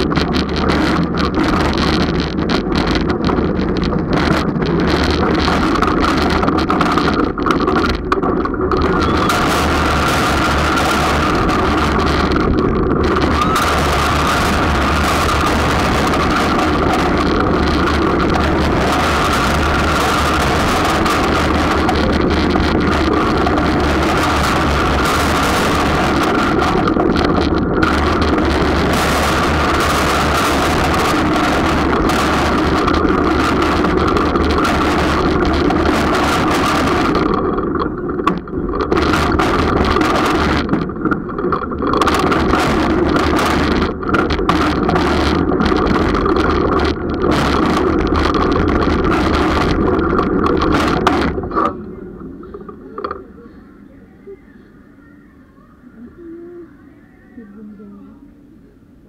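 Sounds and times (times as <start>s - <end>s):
wind rushing over microphone: 0.0s - 53.2s
roller coaster wheels rumbling: 0.0s - 59.0s.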